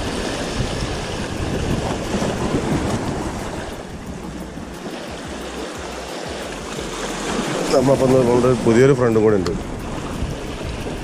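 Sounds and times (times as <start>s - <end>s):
sea surf washing against rocks: 0.0s - 11.0s.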